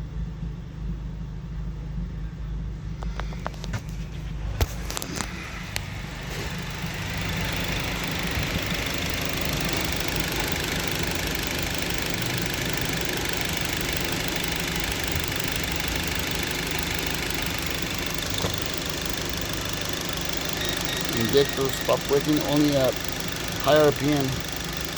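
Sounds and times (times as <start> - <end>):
car engine idling with a misfire: 0.1 - 24.9.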